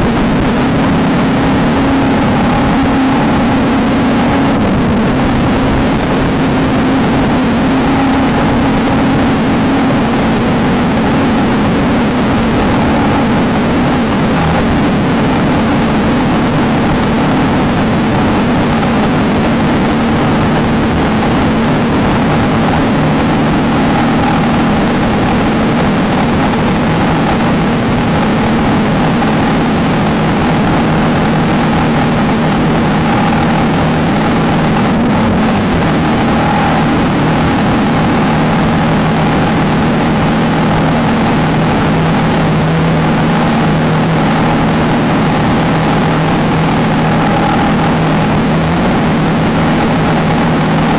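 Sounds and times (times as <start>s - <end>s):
broad rushing noise: 0.0s - 50.9s
race car engine running hard: 0.0s - 50.9s.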